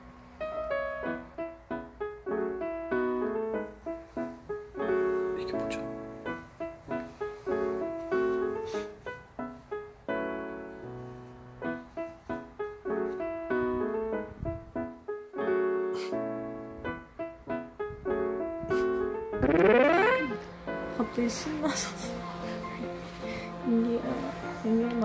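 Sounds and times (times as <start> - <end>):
light piano melody: 0.0 - 25.0.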